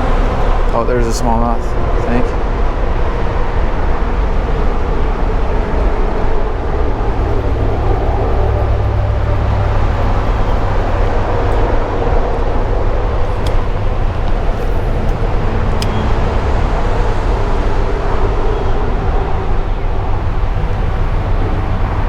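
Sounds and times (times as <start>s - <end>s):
highway traffic rumble: 0.0s - 22.0s.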